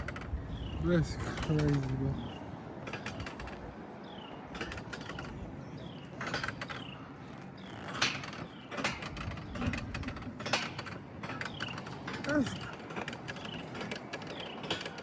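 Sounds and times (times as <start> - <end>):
coaster cars clicking and clattering: 0.0 - 15.0.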